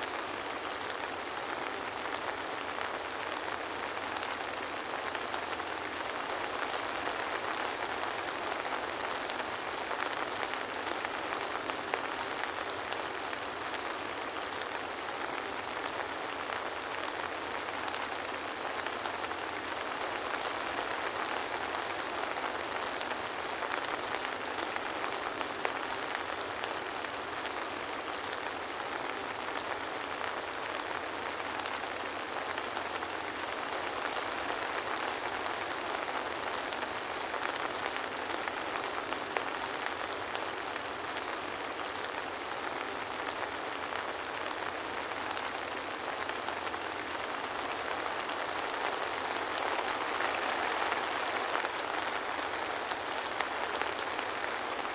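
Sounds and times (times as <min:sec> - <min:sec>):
soft rain falling: 0:00.0 - 0:54.9.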